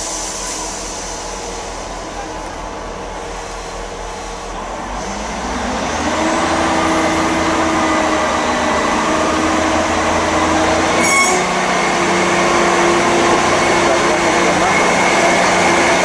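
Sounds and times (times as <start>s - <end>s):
diesel train engine humming: 0.0s - 16.0s.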